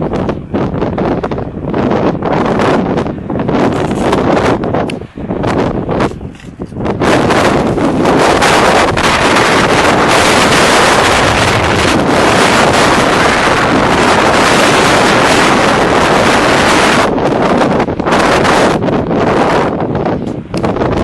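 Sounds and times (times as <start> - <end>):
storm wind buffeting microphone: 0.0 - 21.0.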